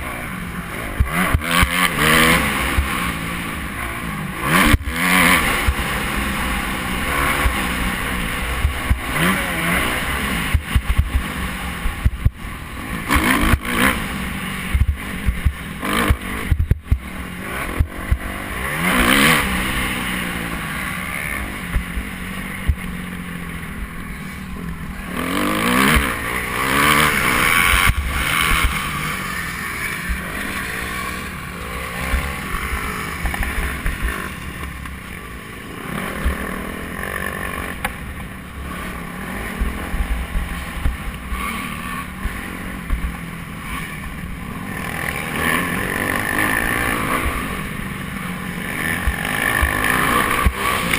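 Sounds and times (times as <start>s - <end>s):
motocross bike engines revving: 0.0s - 50.9s.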